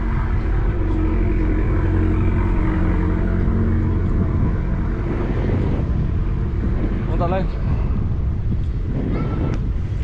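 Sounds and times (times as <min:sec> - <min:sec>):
low hum: 0:00.0 - 0:10.0
road noise: 0:00.0 - 0:10.0
wind buffeting microphone: 0:00.0 - 0:10.0.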